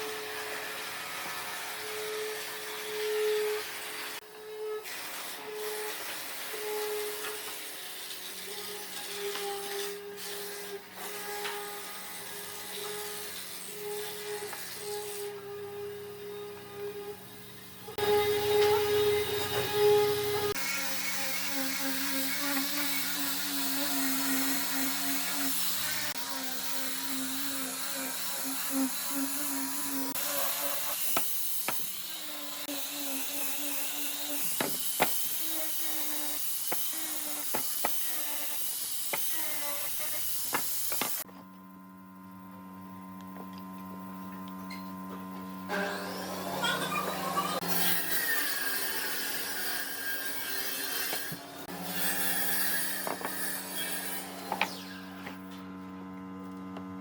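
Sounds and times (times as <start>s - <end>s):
power tool whining: 0.0s - 41.6s, 43.2s - 57.0s.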